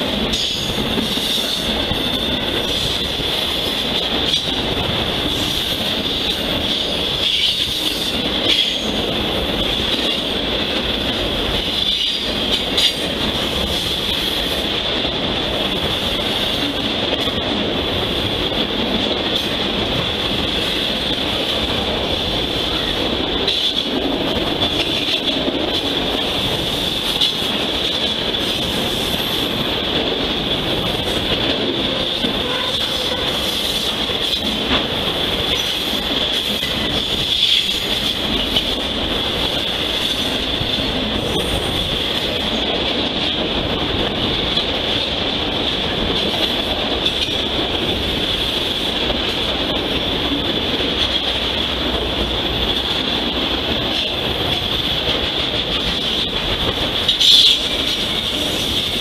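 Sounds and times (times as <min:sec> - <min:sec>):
steel wheels rumbling on rail: 0:00.0 - 0:59.0
train wheels clacking: 0:00.0 - 0:59.0.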